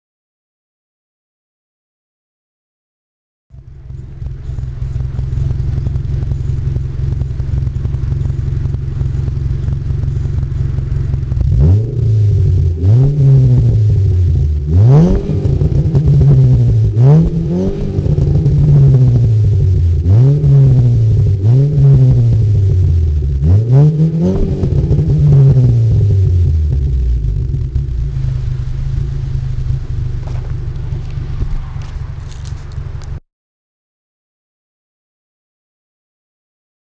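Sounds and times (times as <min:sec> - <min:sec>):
vehicle engine idling and revving: 0:03.5 - 0:33.2.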